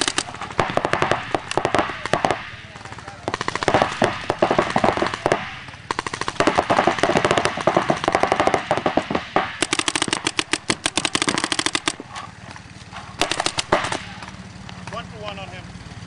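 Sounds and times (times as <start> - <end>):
paintball markers firing rapidly: 0.0 - 12.1, 13.2 - 14.2.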